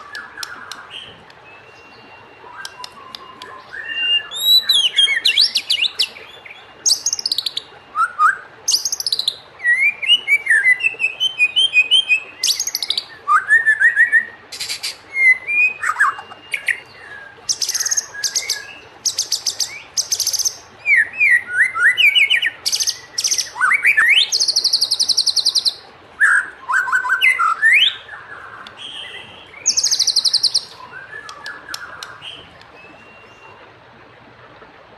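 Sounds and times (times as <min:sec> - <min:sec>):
songbird whistling and trilling: 0:00.0 - 0:33.6.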